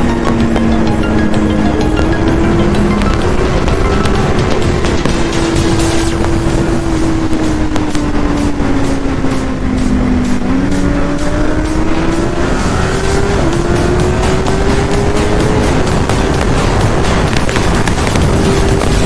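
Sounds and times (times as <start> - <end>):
heavy wind noise: 0.0 - 19.0
sportbike engine at high revs: 0.0 - 19.0.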